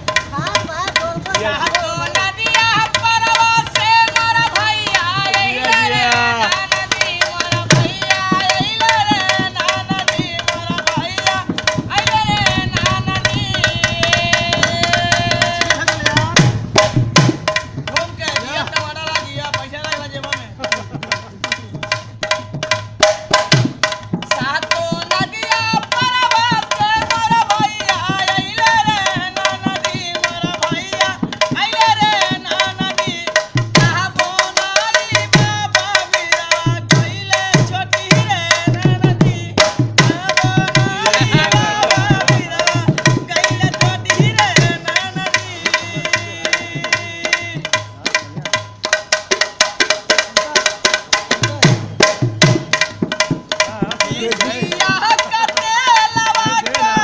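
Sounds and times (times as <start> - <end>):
dholak drum fast rhythm: 0.0 - 57.0.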